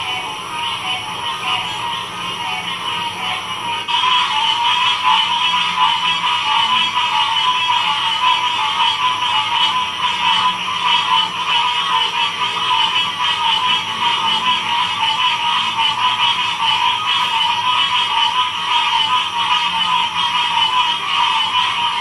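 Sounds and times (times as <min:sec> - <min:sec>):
chorus of frogs calling: 0:00.0 - 0:22.0.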